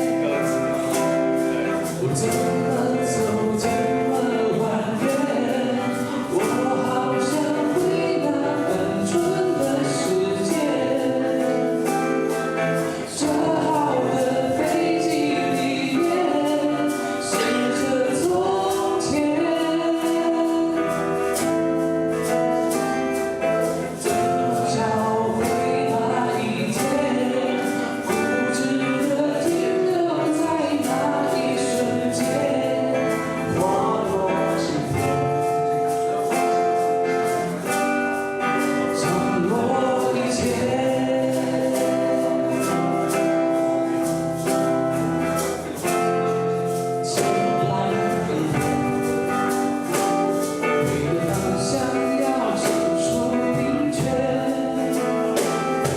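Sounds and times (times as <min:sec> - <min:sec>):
person singing: 0:00.0 - 0:55.9
strummed acoustic guitars: 0:00.0 - 0:55.9.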